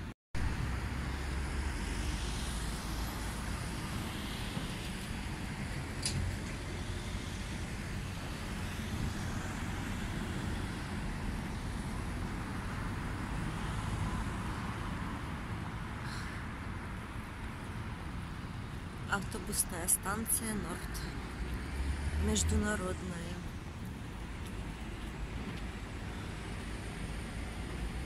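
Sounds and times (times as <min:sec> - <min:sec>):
city street traffic: 0:00.0 - 0:28.0.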